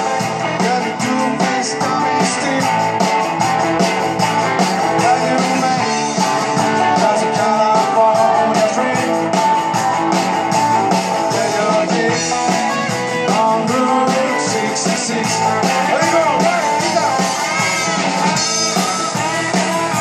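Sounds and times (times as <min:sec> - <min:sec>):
electric guitars: 0:00.0 - 0:20.0
steady drum beat: 0:00.0 - 0:20.0.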